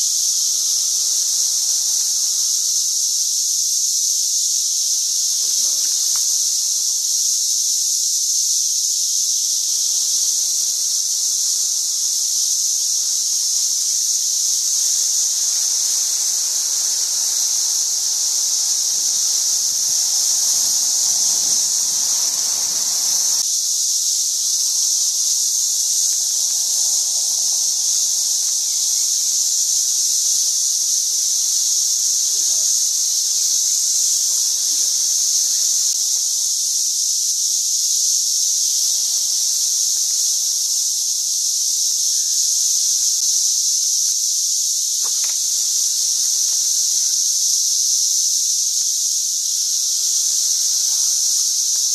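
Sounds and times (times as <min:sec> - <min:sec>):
cicadas droning: 0:00.0 - 0:51.9.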